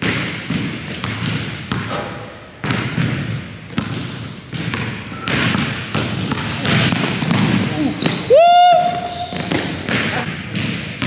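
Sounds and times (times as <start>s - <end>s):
basketball dribbling on wooden floor: 0.0s - 8.3s, 8.9s - 11.0s
sneakers squeaking on floor: 0.0s - 11.0s.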